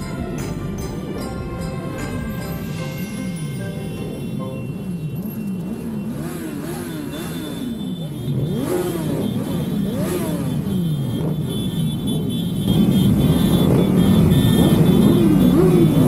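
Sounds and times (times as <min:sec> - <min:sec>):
motorcycle engines revving: 0:03.1 - 0:16.0.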